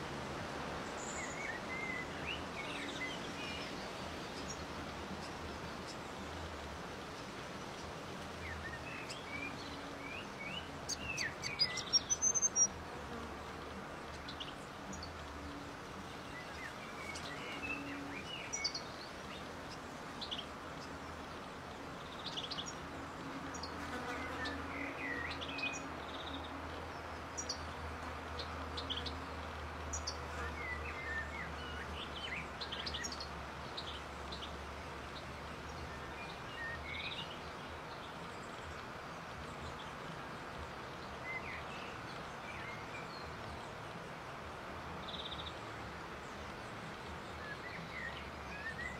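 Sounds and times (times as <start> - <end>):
background hiss: 0.0 - 48.9.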